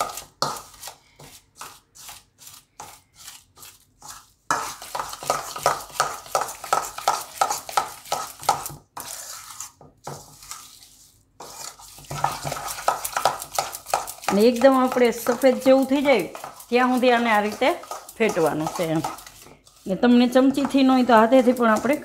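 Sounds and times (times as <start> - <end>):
spoon scraping metal bowl: 1.6 - 22.0.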